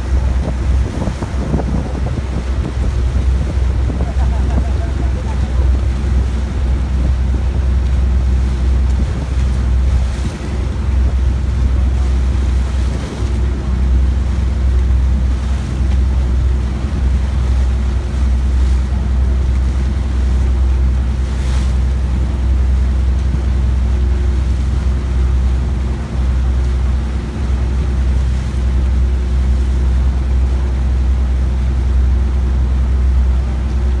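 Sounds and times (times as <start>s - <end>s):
boat engine rumbling: 0.0s - 34.0s
water washing past hull: 0.0s - 34.0s
wind buffeting microphone: 0.0s - 34.0s.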